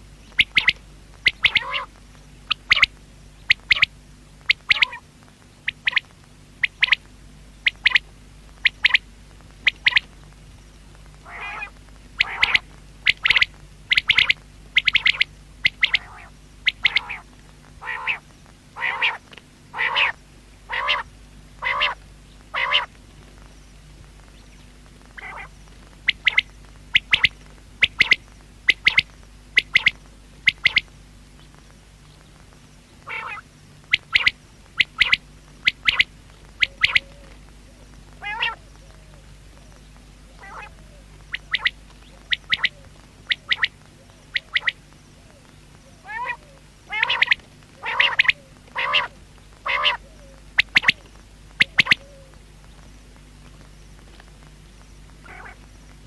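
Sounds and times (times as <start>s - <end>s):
quail calling: 0.2s - 10.1s, 11.2s - 23.0s, 25.0s - 30.9s, 33.0s - 52.4s, 55.2s - 55.7s.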